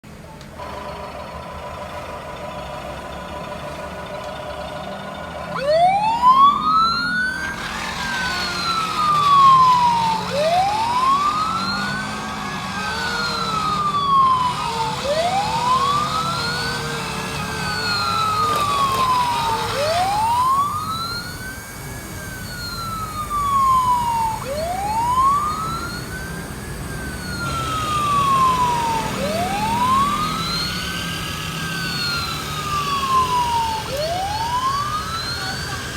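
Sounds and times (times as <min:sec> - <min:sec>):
wailing fire siren: 0:00.6 - 0:35.9.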